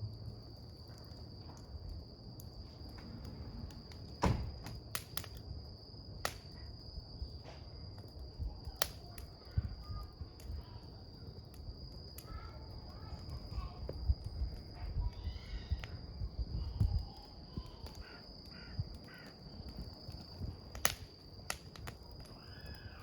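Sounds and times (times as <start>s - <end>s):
campfire crackling: 0.0s - 23.0s
crickets trilling: 0.0s - 23.0s.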